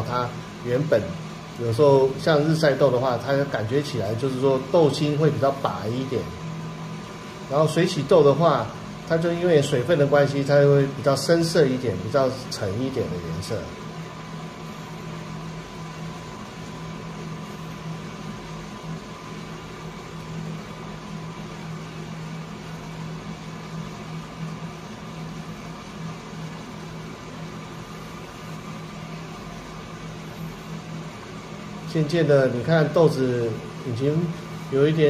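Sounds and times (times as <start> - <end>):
coffee roaster airy rush: 0.0 - 35.0
low motor hum: 0.0 - 35.0.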